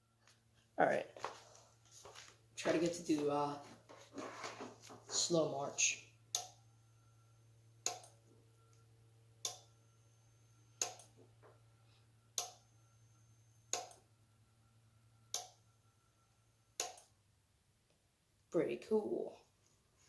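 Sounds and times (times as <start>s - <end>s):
faint high whine: 0.0s - 17.3s.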